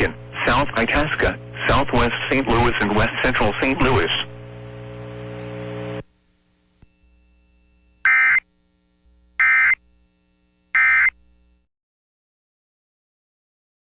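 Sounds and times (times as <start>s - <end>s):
broadcast hiss and hum: 0.0s - 11.7s.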